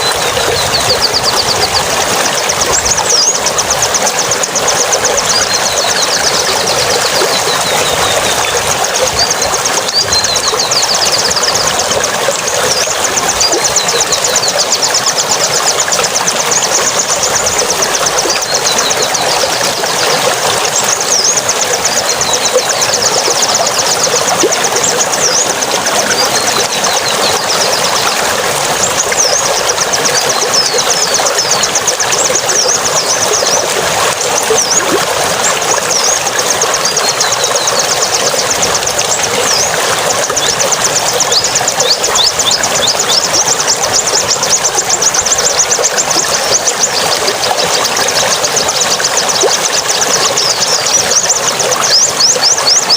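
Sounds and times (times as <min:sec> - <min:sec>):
bird trills and chirps: 0:00.0 - 0:52.9
running water rushing: 0:00.0 - 0:52.9.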